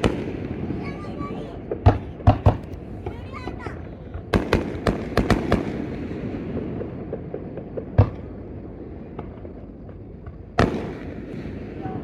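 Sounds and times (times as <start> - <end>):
faint firework crackles: 0.0 - 12.0
rumbling echo: 0.0 - 12.0.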